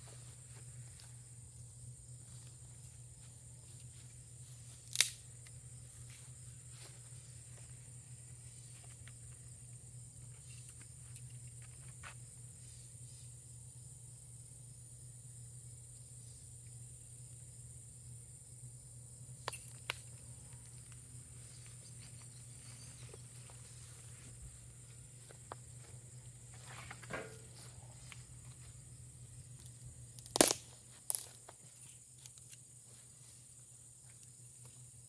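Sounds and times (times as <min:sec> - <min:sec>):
low hum and hiss: 0:00.0 - 0:35.0.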